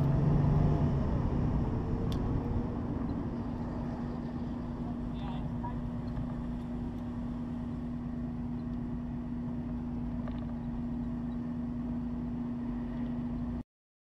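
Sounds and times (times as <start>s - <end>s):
car engine droning: 0.0s - 13.6s
low road noise: 0.0s - 13.6s.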